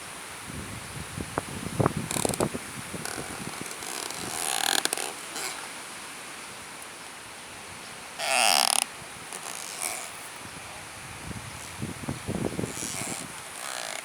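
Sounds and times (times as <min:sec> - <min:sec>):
tree creaking in wind: 0:00.4 - 0:14.0.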